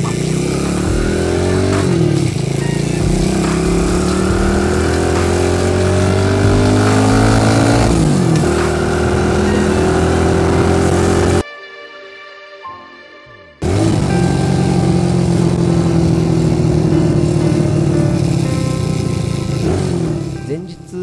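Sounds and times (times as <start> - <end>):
motorcycle engine running: 0.0 - 11.4, 13.6 - 21.0.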